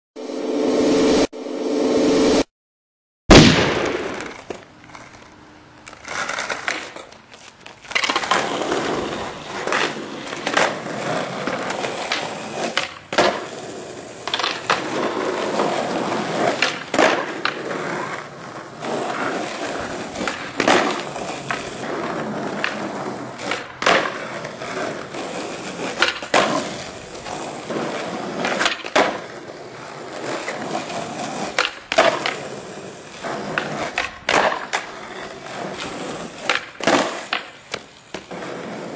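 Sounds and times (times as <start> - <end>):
skateboard rolling on asphalt: 3.7 - 38.9
skateboard clacking and slapping: 3.8 - 38.9.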